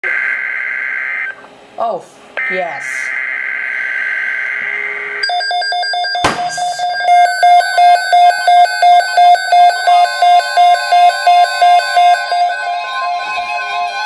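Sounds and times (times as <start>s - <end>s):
rapid electronic beeping: 2.4s - 14.0s.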